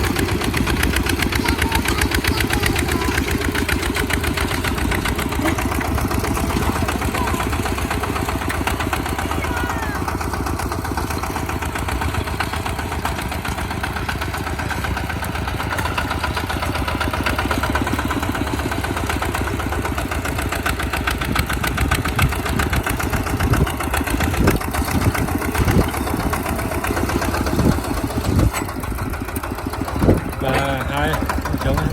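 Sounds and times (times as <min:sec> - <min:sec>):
tractor engine chugging: 0:00.0 - 0:31.9.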